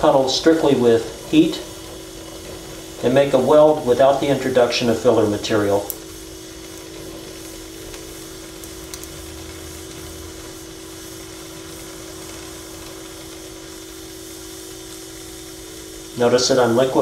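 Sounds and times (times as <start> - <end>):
steady low hum: 0.0 - 17.0
welding torch hissing: 0.0 - 17.0.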